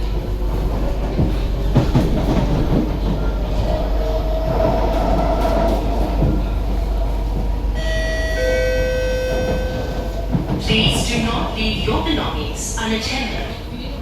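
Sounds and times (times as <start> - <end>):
train rumble inside car: 0.0 - 14.0.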